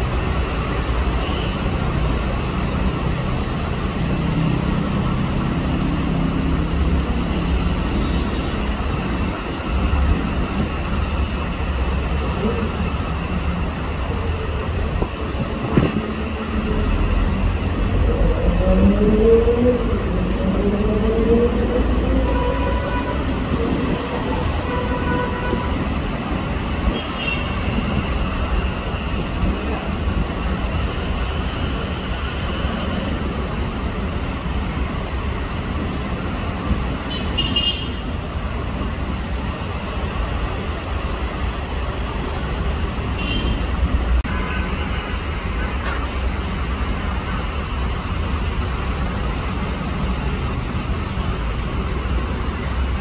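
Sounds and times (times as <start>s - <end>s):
electric train rumbling on tracks: 0.0s - 53.0s.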